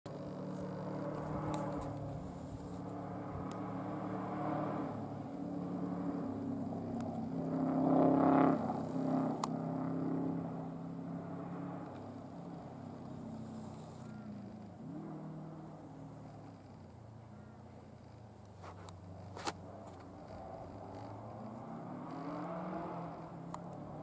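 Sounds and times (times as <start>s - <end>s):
rally car engine revving: 0.1s - 16.9s, 18.8s - 24.0s.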